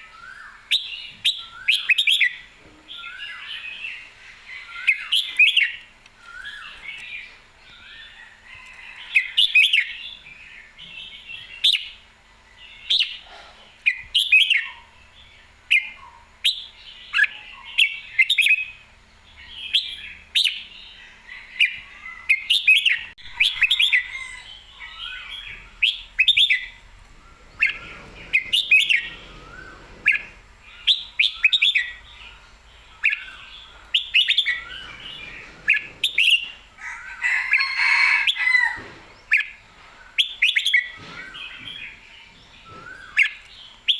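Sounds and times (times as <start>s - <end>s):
bird chirping song: 0.0s - 43.9s.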